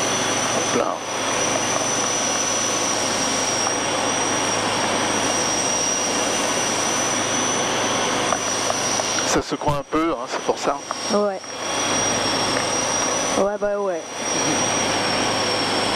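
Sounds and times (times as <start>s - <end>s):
aircraft propeller engine: 0.0s - 15.9s.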